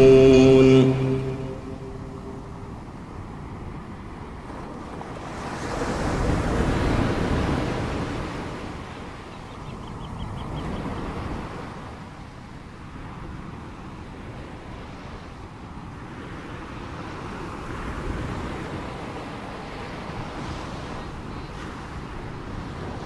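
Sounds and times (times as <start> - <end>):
ocean waves washing in: 0.0 - 23.0.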